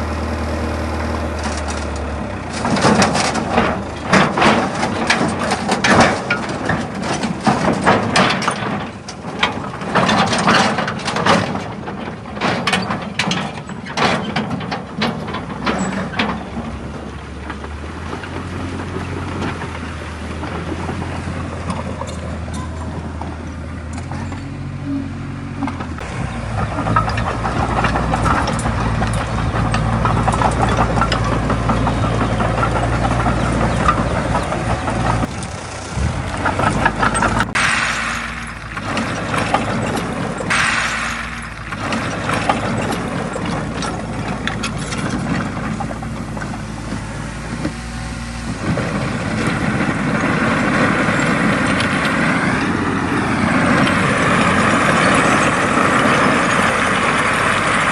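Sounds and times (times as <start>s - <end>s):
diesel engine working: 0.0s - 57.9s.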